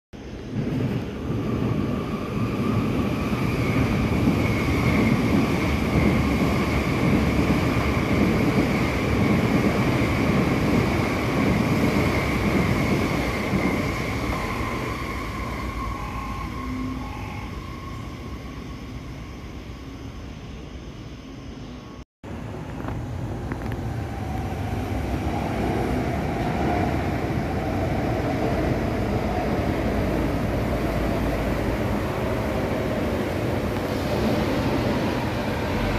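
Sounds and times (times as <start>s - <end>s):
train wheels rumbling on rails: 0.2s - 17.1s, 22.3s - 35.9s.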